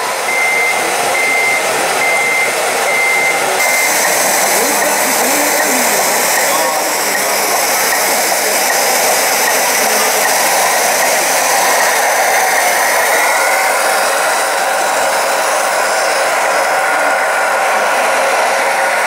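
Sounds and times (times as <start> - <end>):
electric motors whirring: 0.0 - 19.0
faint motor whine: 0.0 - 19.0.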